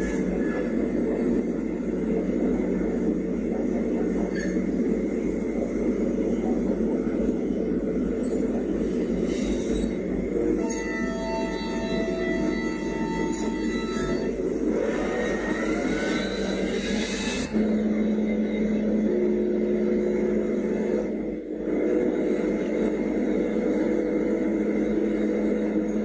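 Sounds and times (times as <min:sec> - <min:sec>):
heavy machine running: 0:00.0 - 0:26.0.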